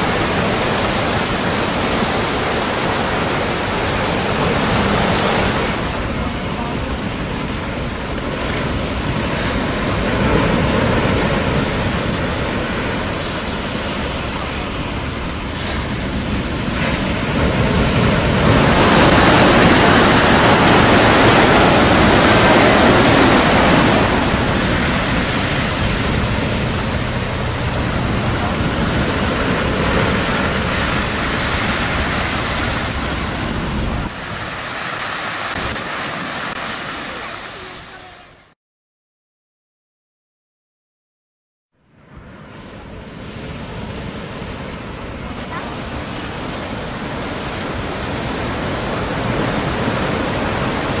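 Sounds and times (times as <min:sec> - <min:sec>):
surf: 0:00.0 - 0:38.5, 0:42.0 - 0:51.0
strong wind: 0:00.0 - 0:38.6, 0:41.8 - 0:51.0.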